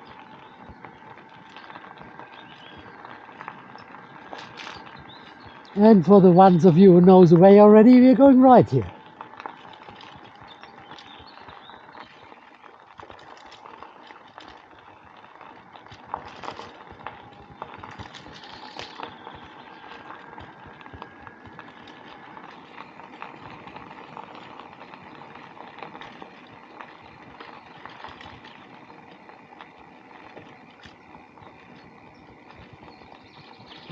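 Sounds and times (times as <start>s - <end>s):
bicycle tyre noise on rough path: 0.0s - 6.7s, 7.4s - 33.9s
bike clicks and rattles: 1.1s - 5.8s, 9.2s - 33.9s.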